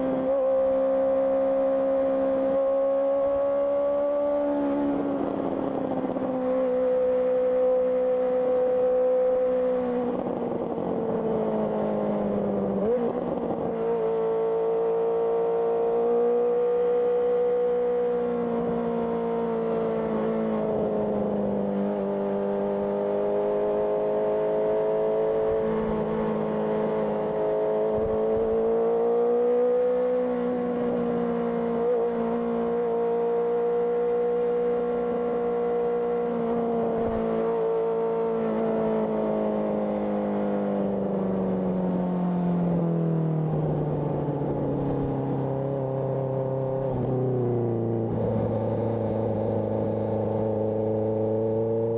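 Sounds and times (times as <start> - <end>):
motorcycle engine riding: 0.0 - 51.9.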